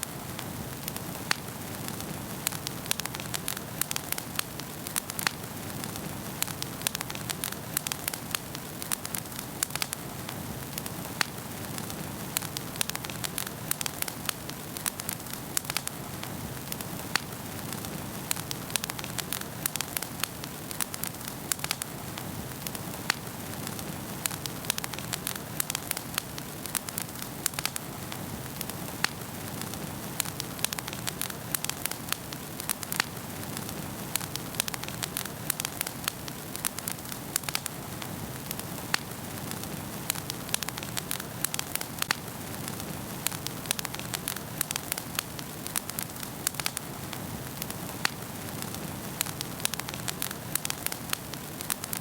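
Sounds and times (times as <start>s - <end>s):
wood fire crackling: 0.0s - 52.0s
flames rushing: 0.1s - 52.0s.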